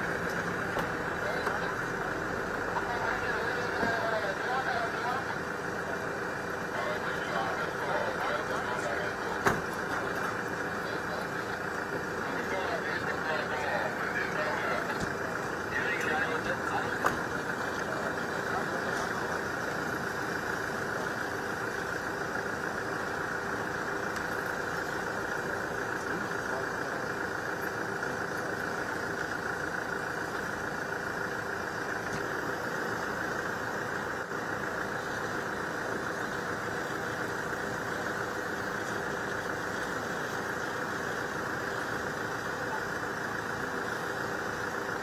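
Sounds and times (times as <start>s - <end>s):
engine drone: 0.0s - 45.0s
indistinct voices: 0.0s - 45.0s.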